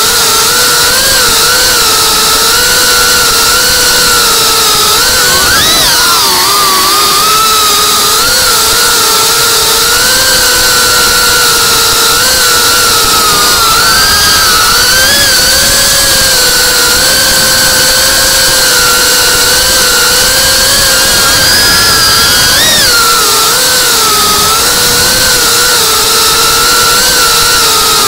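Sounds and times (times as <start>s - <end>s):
drone motors and propellers whining: 0.0s - 28.0s.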